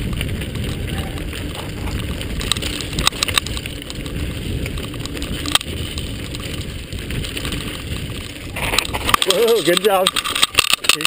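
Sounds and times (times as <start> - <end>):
bike rattling and clicking: 0.0 - 11.0
bike tyres rolling on dirt: 0.0 - 11.0
wind on microphone: 0.0 - 11.0.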